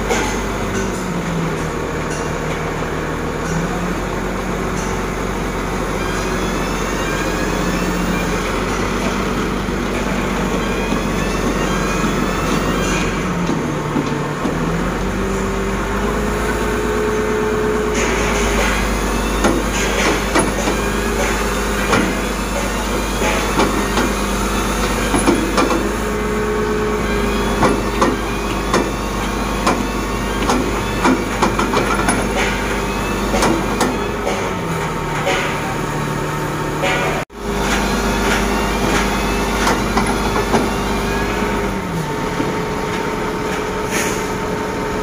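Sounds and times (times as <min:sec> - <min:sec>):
crane diesel engine running: 0:00.0 - 0:45.0
engine whine: 0:00.0 - 0:45.0
steel tracks clanking: 0:00.0 - 0:45.0.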